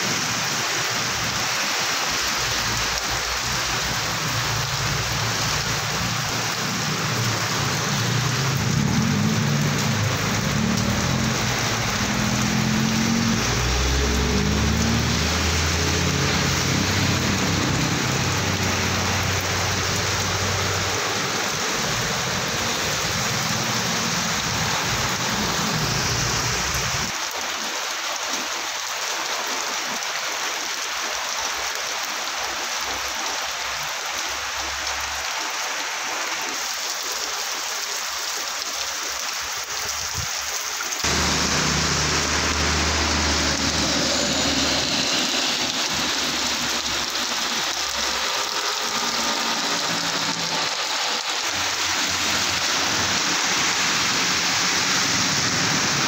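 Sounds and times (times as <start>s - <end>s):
heavy rain pouring: 0.0s - 56.0s
vehicles passing on wet road: 0.0s - 56.0s.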